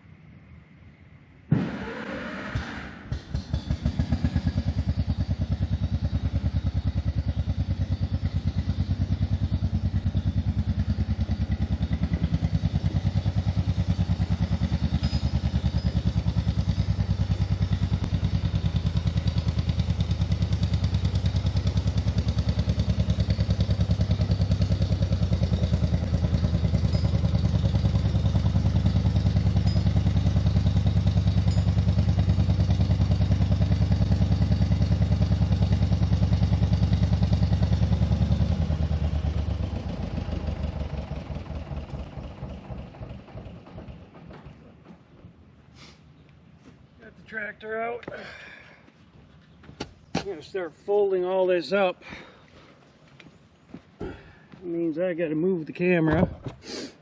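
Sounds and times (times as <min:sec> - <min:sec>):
tractor engine running: 0:01.4 - 0:48.1.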